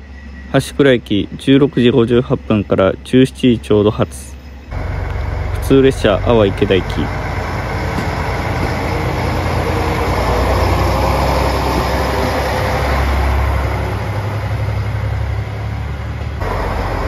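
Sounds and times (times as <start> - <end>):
diesel railcar engine droning: 0.0 - 17.0.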